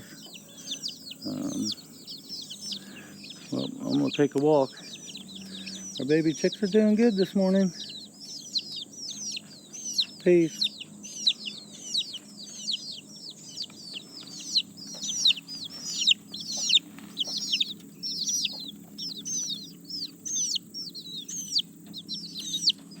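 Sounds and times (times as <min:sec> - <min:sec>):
baby chicks peeping: 0:00.0 - 0:23.0
faint low hum: 0:00.0 - 0:23.0.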